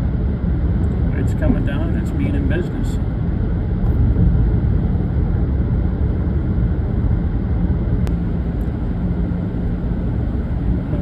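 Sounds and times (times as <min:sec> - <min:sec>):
tyres and engine rumbling: 0:00.0 - 0:11.0.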